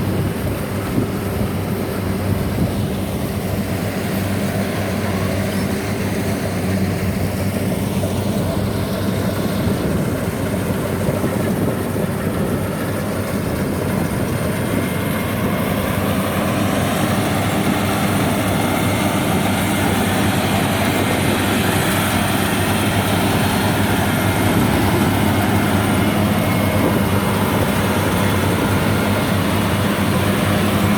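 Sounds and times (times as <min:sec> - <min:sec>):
combine harvester diesel engine: 0:00.0 - 0:30.9.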